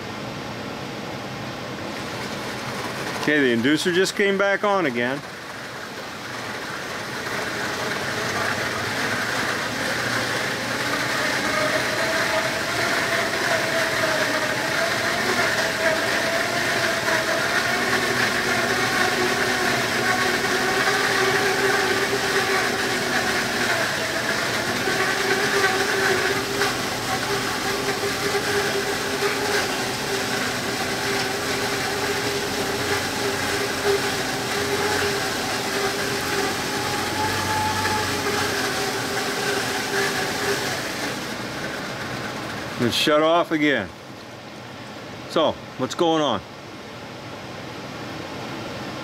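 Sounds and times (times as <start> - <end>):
furnace inducer motor running: 0.0 - 45.9
furnace blower running: 0.0 - 46.0.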